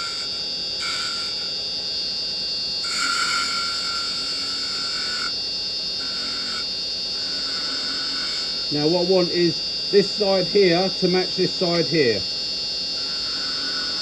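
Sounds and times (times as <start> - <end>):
high whine of chisel cutting: 0.0 - 14.0
wood lathe humming: 0.0 - 14.0.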